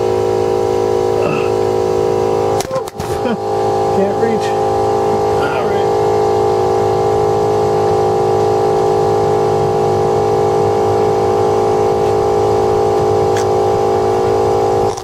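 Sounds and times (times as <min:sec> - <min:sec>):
motor humming steadily: 0:00.0 - 0:15.0.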